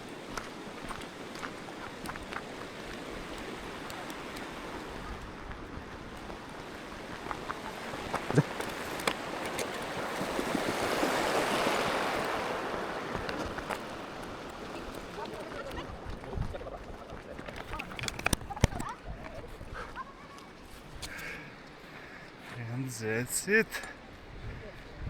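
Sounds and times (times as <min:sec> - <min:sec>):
boot footsteps on trail: 0:00.1 - 0:11.8, 0:12.9 - 0:25.0.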